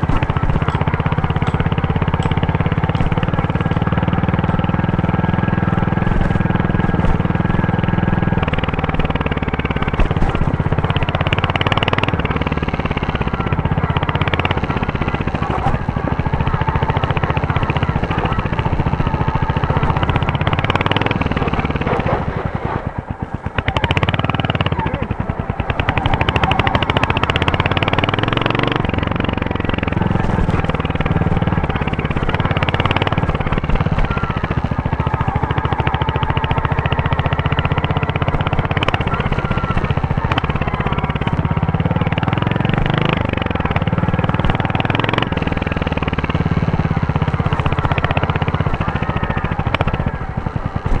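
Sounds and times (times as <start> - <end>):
motorcycle engine exhaust thump: 0.0 - 42.9.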